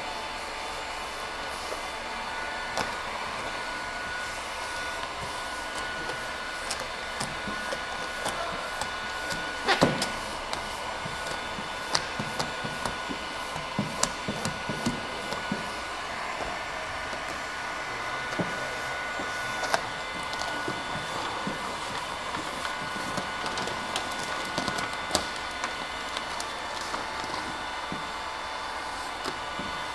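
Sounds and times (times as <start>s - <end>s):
steady blowing noise with whine: 0.0s - 29.9s.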